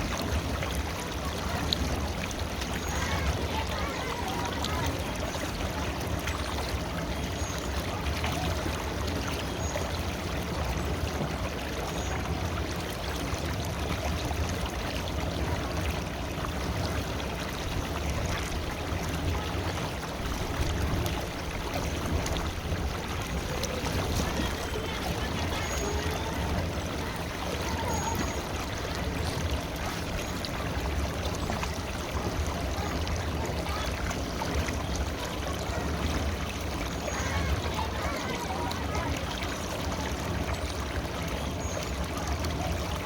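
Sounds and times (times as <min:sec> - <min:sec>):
river water over rocks: 0:00.0 - 0:43.0.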